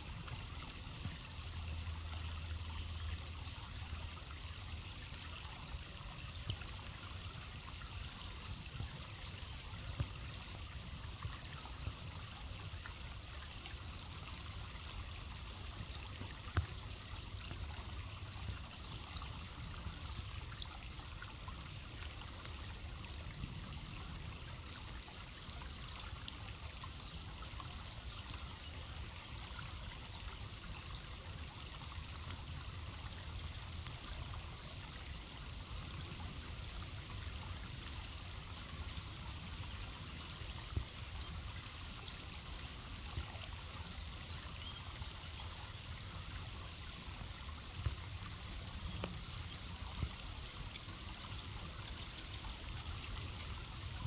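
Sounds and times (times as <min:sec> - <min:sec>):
creek trickling over rocks: 0:00.0 - 0:54.0.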